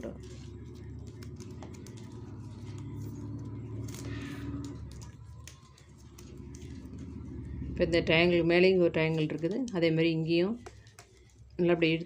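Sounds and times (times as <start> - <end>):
craft wire rubbing and ticking: 0.0 - 12.0
low steady hum: 0.0 - 12.0.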